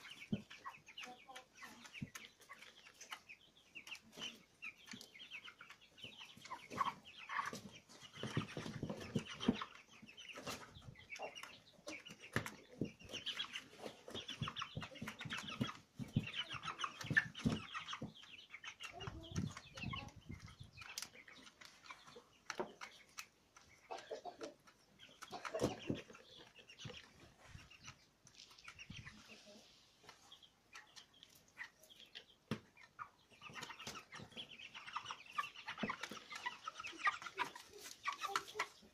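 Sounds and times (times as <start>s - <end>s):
chickens clucking and peeping: 0.0s - 38.9s.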